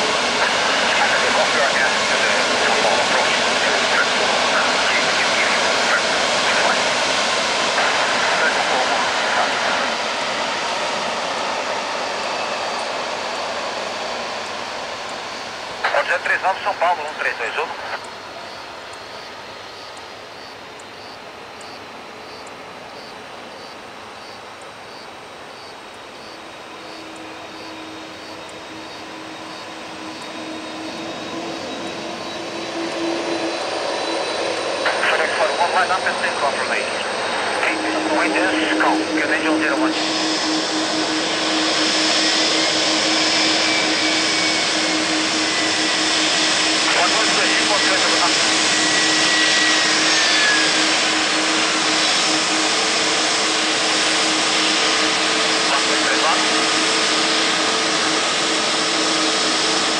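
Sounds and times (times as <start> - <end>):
jet engines rumbling at taxi power: 0.0 - 59.9.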